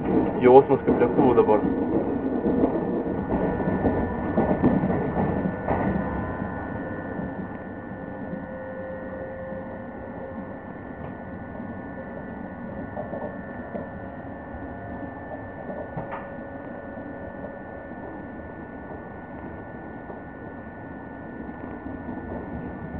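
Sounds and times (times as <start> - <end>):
high whine: 0.0 - 22.9
train rumble: 0.0 - 22.9.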